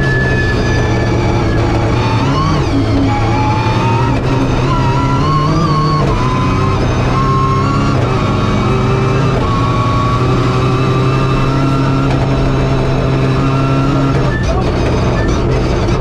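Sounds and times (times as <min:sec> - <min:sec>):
rally car engine running hard: 0:00.0 - 0:16.0.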